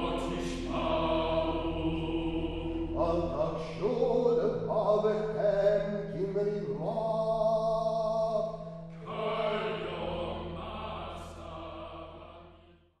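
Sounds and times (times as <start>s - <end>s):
low drone: 0.0s - 12.4s
chant-like choral singing: 0.0s - 12.8s.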